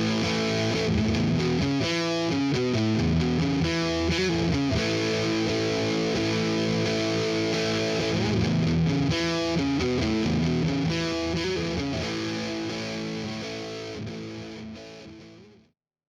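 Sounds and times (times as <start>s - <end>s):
rock music with distorted guitar: 0.0s - 15.4s.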